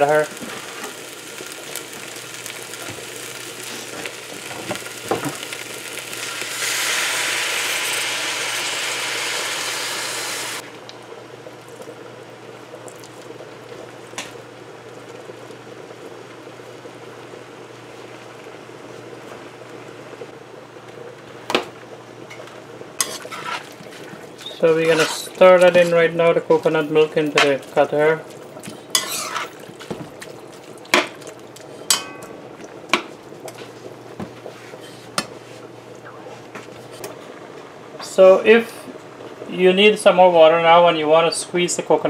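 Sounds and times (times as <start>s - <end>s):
liquid pouring and sizzling: 0.0s - 20.4s, 21.0s - 37.4s
food frying in a pot: 0.0s - 41.8s.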